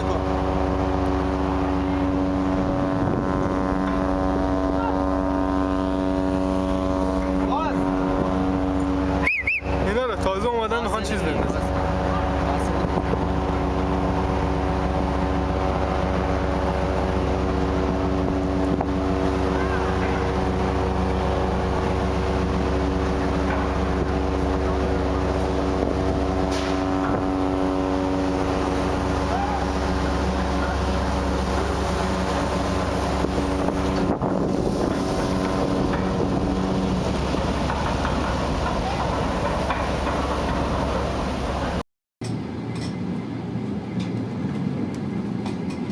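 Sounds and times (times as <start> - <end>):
wind buffeting microphone: 0.0 - 41.8
ship machinery droning: 0.0 - 45.9.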